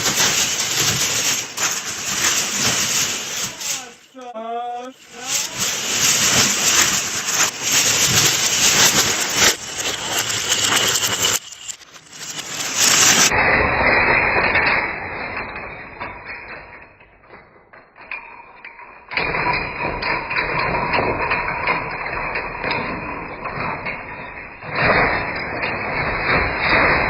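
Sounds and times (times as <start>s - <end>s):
wooden planks clattering: 0.0s - 17.4s, 18.1s - 27.0s.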